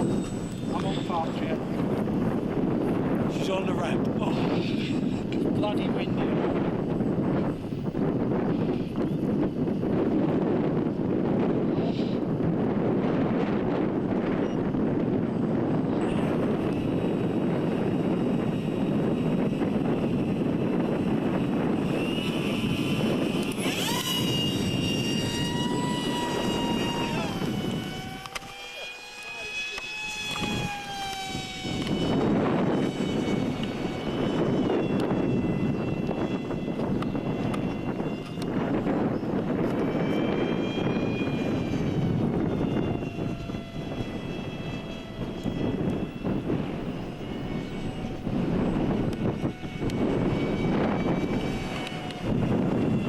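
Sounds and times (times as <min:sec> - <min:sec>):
model jet motor whine: 0:00.0 - 0:53.0
wind rushing over microphone: 0:00.0 - 0:53.0.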